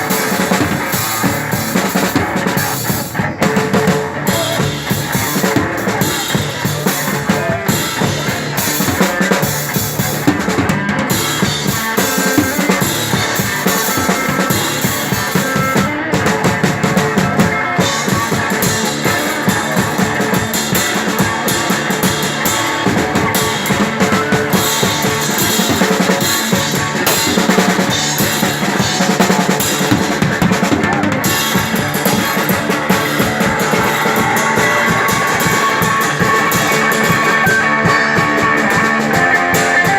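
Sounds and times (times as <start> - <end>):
drum kit played hard: 0.0 - 39.9
live rock music: 0.0 - 39.9.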